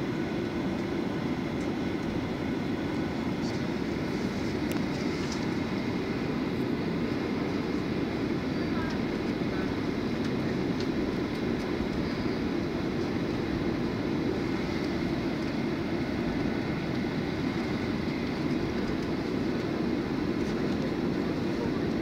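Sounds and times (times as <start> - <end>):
airliner cabin engine hum: 0.0 - 22.0.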